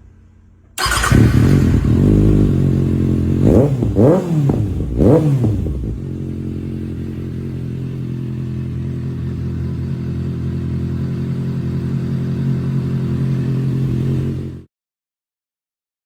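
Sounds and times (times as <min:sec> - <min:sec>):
motorcycle engine idling: 0:00.2 - 0:14.6.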